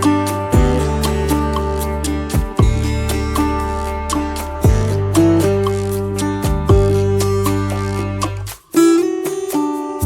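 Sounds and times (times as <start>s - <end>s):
held bass line: 0.0s - 8.7s
plucked acoustic guitar music: 0.0s - 10.0s.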